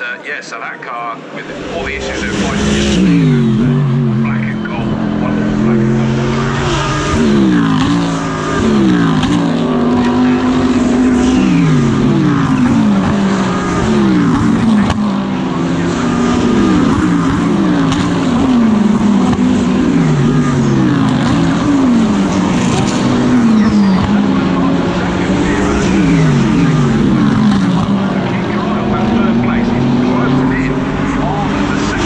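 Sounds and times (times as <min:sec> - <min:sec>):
race car engine shifting gears: 0:01.4 - 0:32.0.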